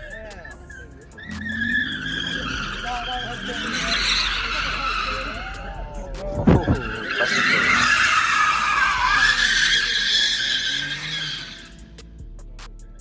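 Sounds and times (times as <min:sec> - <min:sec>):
car tyres screeching: 0:00.0 - 0:12.2.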